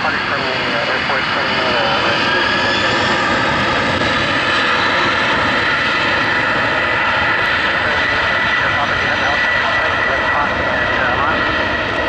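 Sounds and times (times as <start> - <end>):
jet engines with high whine: 0.0 - 12.0.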